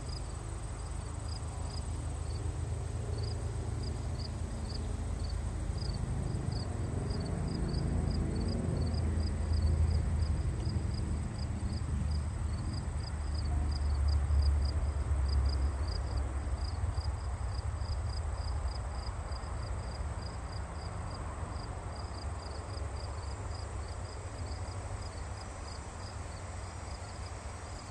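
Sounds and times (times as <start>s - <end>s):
insect chirping: 0.0s - 27.9s.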